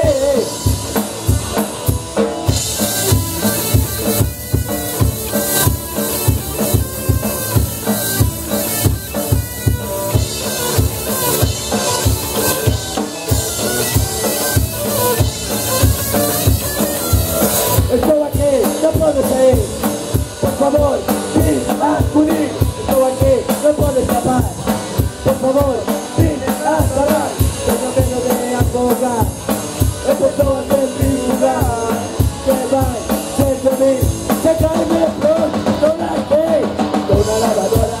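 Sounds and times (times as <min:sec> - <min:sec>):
bass guitar: 0:00.0 - 0:38.0
drum kit beat: 0:00.0 - 0:38.0
electric guitar: 0:00.0 - 0:38.0.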